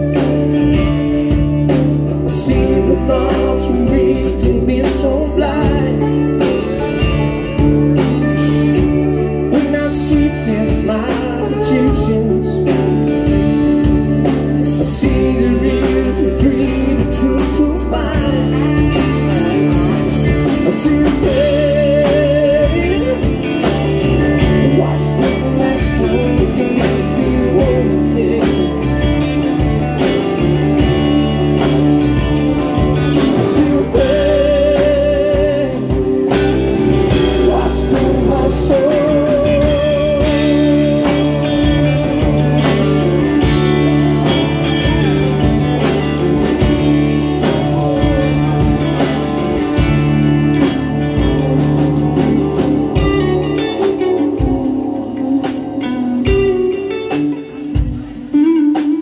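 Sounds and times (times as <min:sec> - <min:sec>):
man singing: 0:00.0 - 0:01.4, 0:02.0 - 0:59.0
live rock band playing: 0:00.0 - 0:59.0.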